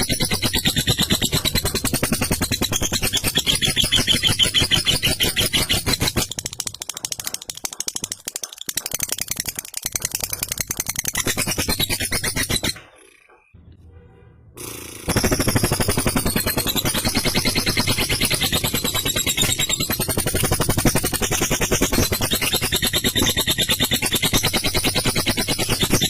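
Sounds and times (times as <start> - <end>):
lovebird chattering: 0.0 - 13.5, 14.6 - 26.0.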